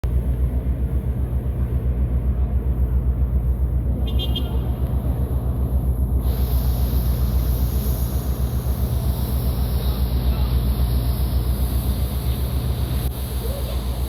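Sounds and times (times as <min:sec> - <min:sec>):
ship diesel engine throbbing: 0:00.0 - 0:14.0.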